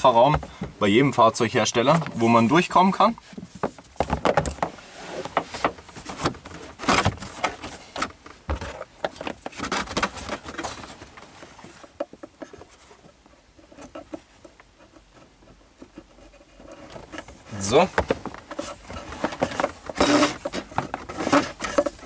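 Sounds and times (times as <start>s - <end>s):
rustling and scraping of cable: 0.0s - 22.0s.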